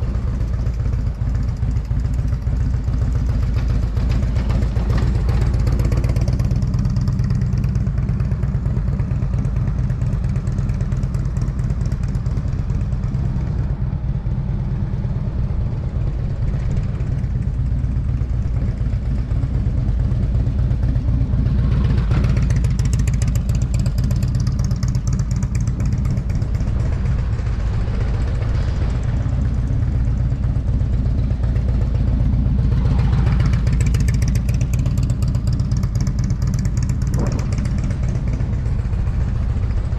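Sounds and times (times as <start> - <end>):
motorcycle engine running: 0.0 - 39.9
steady low rumble: 0.0 - 39.9.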